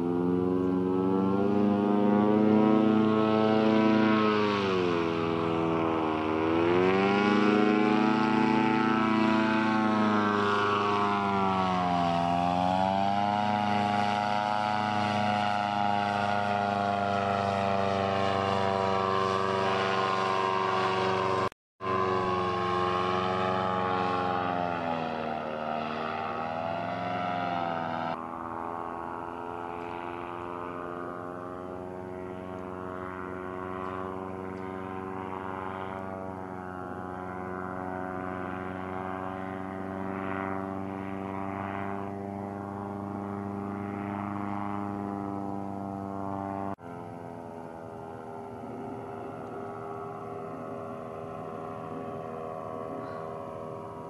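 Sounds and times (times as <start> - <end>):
paramotor engine droning: 0.0 - 54.0.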